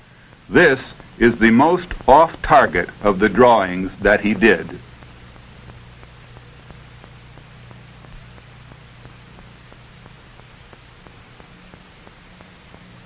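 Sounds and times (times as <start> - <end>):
film soundtrack hiss: 0.0 - 13.0
low hum: 0.0 - 13.0
faint regular ticks: 0.2 - 13.0.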